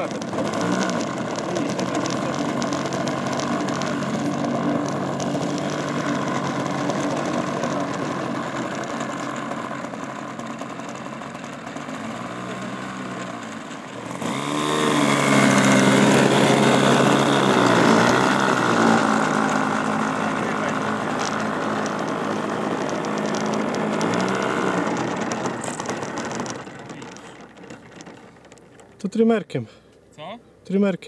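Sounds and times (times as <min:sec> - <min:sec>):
model airplane engine running: 0:00.0 - 0:29.2.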